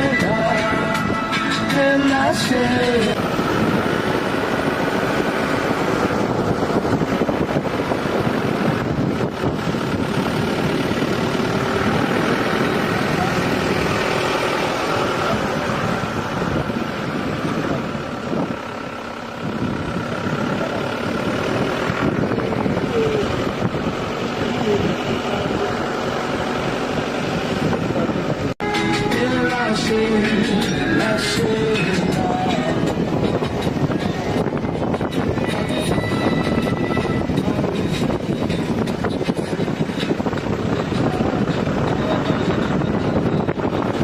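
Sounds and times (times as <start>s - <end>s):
car engine: 0.0s - 44.0s
road noise: 0.0s - 44.0s.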